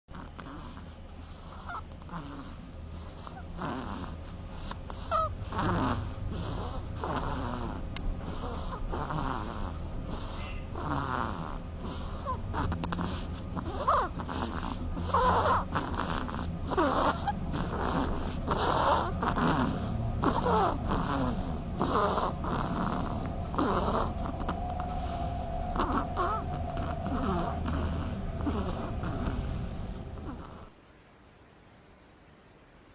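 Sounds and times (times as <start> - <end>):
duckling snoring: 0.1 - 30.8.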